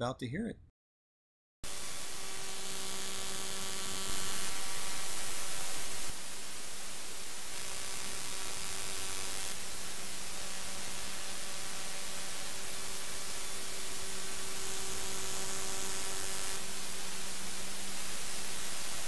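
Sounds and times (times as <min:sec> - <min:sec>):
static-like hiss: 0:01.7 - 0:19.0.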